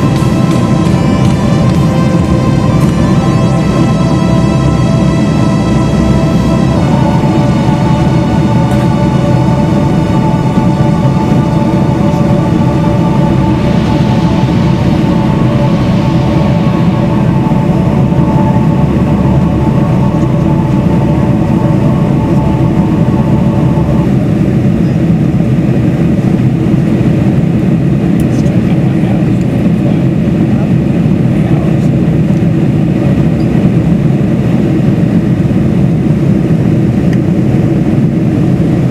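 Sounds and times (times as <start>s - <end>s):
airliner cabin rumble: 0.0s - 38.9s
steady whining tones: 0.0s - 38.9s.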